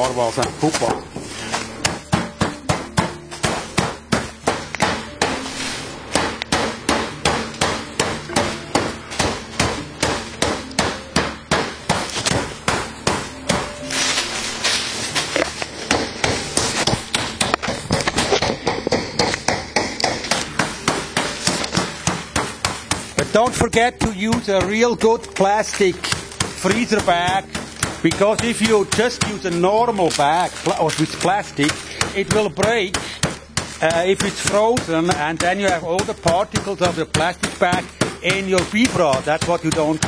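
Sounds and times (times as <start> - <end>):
hammer blows on frozen comb: 0.0 - 40.0.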